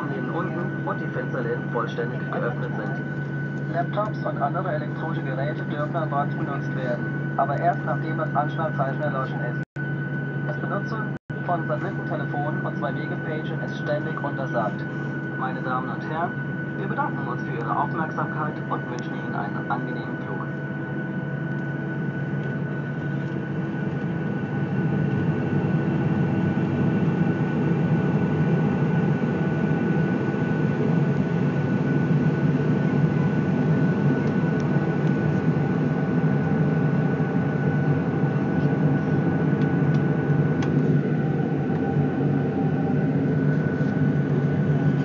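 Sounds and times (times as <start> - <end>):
high engine whine: 0.0 - 45.0
jet engine hum from cabin: 0.0 - 45.0.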